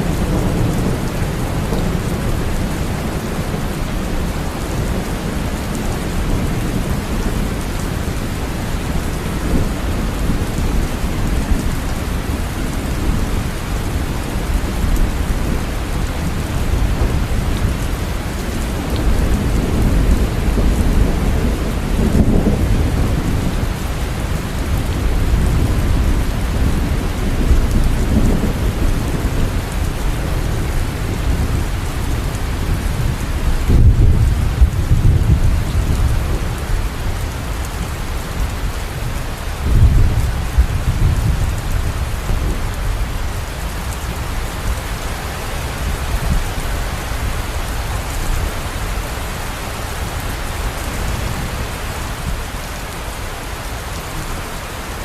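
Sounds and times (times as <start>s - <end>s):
thunder rumbling: 0.0s - 54.0s
steady rain falling: 0.0s - 55.0s.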